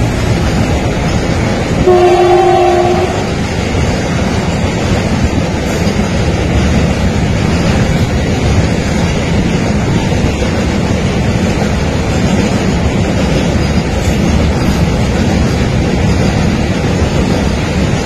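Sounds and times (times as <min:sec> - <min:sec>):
freight train passing: 0:00.0 - 0:18.0.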